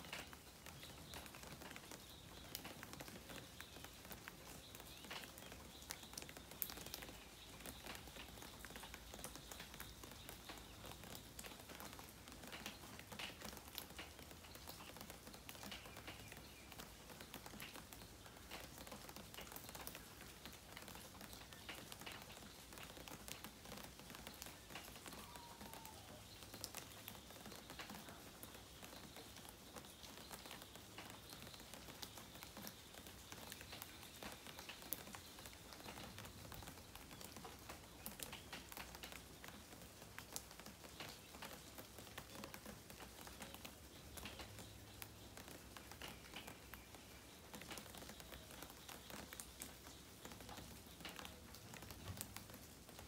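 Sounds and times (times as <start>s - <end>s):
raindrops pattering: 0.0s - 53.0s
soft steady hiss: 0.0s - 53.0s.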